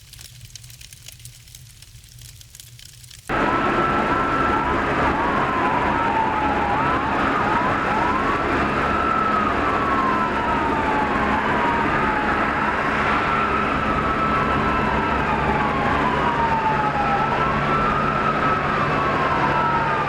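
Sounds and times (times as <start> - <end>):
engines and road noise: 3.3 - 20.0
police sirens wailing: 3.3 - 20.0.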